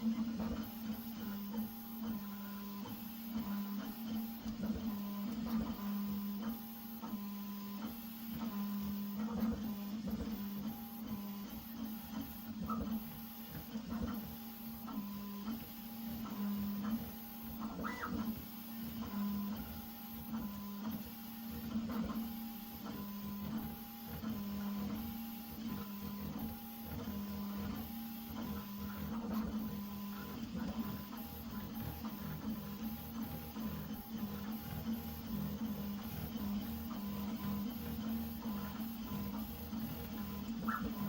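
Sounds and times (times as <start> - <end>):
printer stepper motors whining: 0.0 - 41.0.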